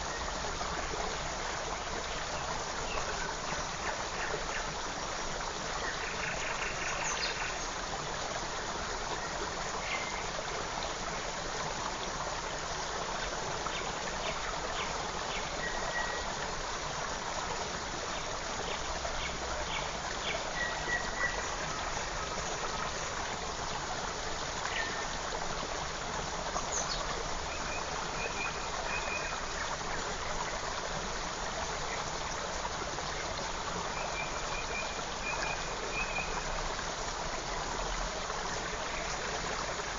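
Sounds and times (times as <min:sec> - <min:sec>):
creek running: 0:00.0 - 0:39.9.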